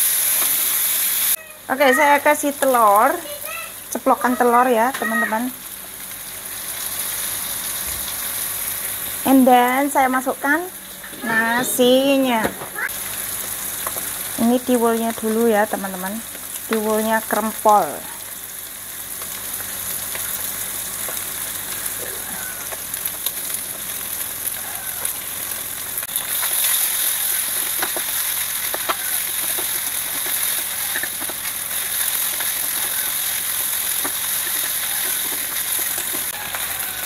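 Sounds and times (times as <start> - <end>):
rice sizzling in a wok: 0.0 - 37.0.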